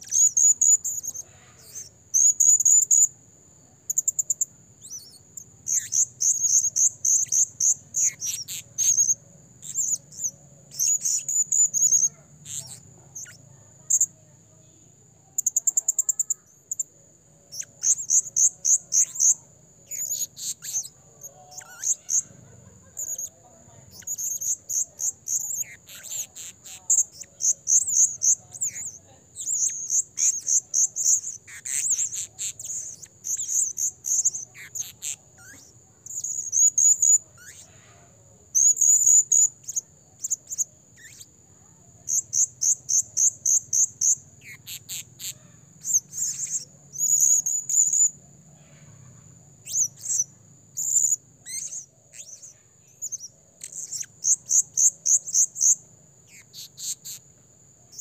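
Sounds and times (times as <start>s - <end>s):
parrot shrill chirps: 0.0s - 3.1s, 4.8s - 14.1s, 17.5s - 41.3s, 42.1s - 48.2s, 49.6s - 57.2s
high insect whine: 0.0s - 58.0s.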